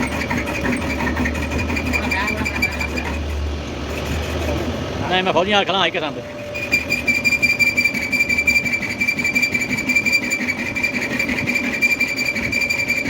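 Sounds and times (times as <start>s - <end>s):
cutting tool high-pitched whine: 0.0s - 13.0s
lathe running: 0.0s - 13.0s.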